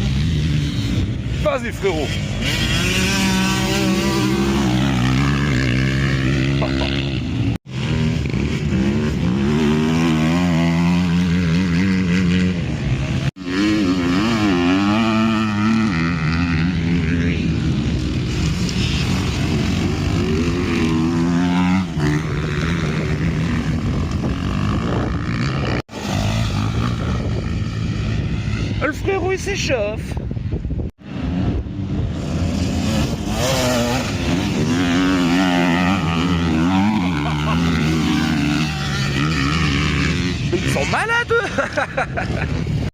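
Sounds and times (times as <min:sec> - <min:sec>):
dirt bike engine revving: 0:00.0 - 0:29.5, 0:31.0 - 0:42.9.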